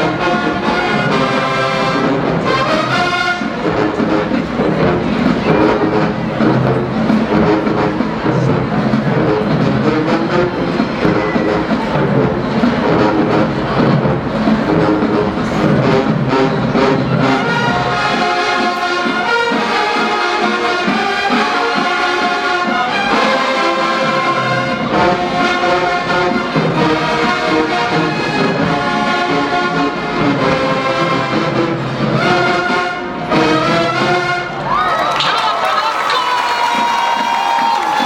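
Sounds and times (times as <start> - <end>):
brass band playing chords: 0.0 - 38.0.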